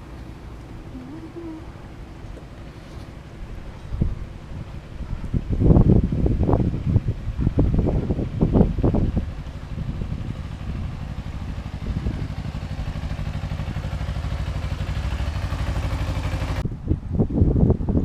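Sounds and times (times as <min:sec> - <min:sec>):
engine running steadily: 0:00.0 - 0:18.0
gusts of wind: 0:02.7 - 0:18.0.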